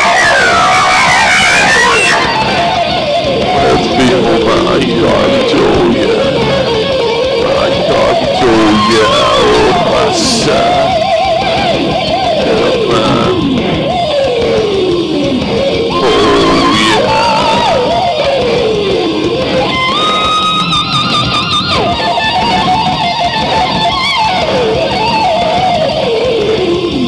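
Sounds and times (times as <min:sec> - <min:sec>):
lead electric guitar bending notes: 0:00.0 - 0:27.0
rock band playing: 0:00.0 - 0:27.0.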